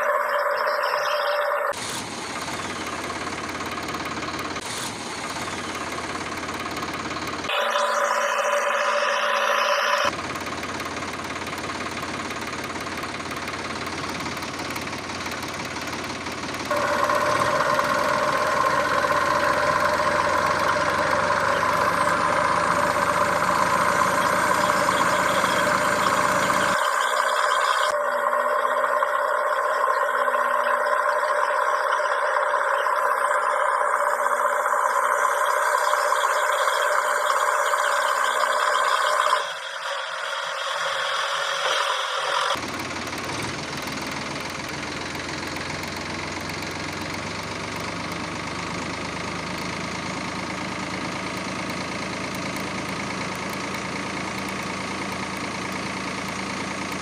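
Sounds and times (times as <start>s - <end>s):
motor running with whine: 0.0s - 57.0s.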